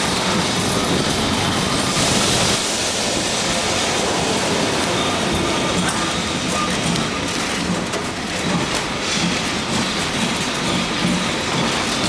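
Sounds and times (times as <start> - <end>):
tram wheels running on rails: 0.0 - 12.0.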